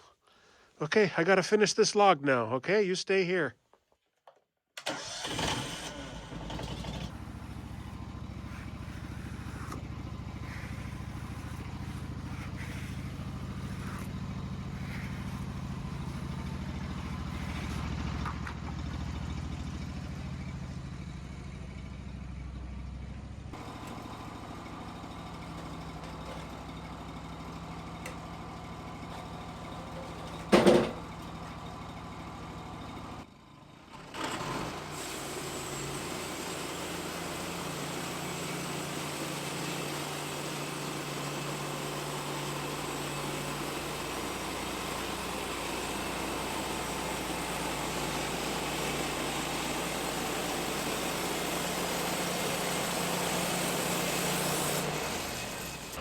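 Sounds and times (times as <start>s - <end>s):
sawmill gasoline engine running: 4.8s - 56.0s.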